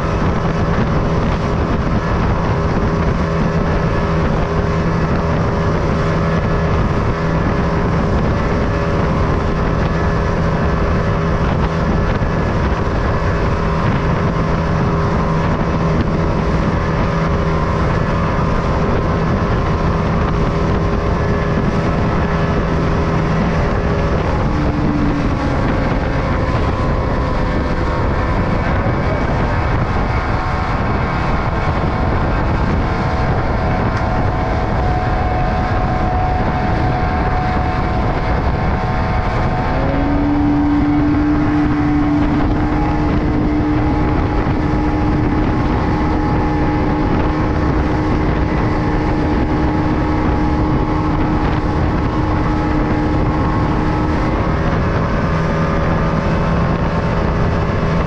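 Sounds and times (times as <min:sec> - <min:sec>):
boat engine running: 0:00.0 - 0:58.0
rushing water and spray: 0:00.0 - 0:58.0
wind on microphone: 0:00.0 - 0:58.0.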